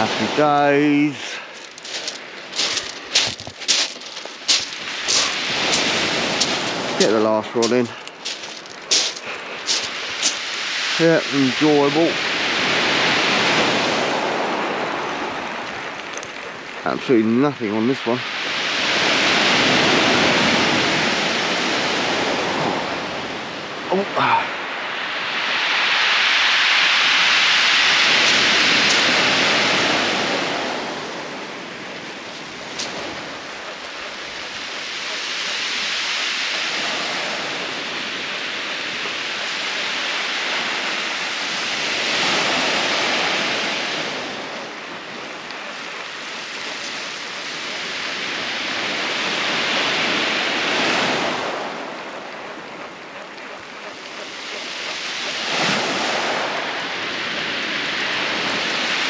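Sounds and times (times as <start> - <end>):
waves washing over shingle: 0.0 - 59.0.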